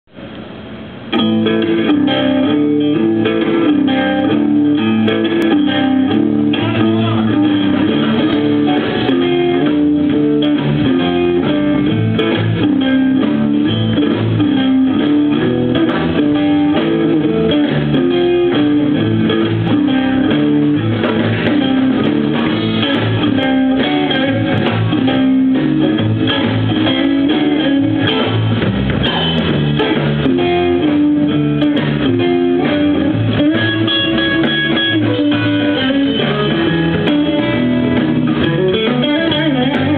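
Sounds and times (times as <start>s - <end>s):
bass guitar: 0.0s - 39.9s
electric guitar blues: 0.2s - 39.9s.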